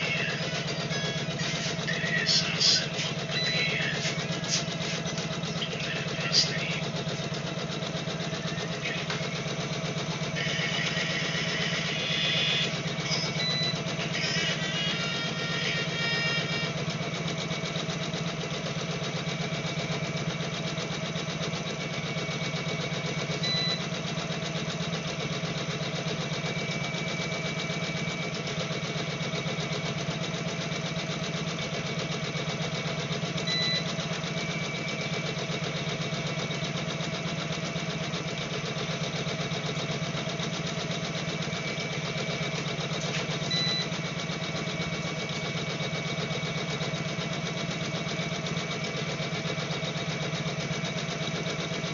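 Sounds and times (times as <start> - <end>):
embroidery machine running: 0.0 - 51.9.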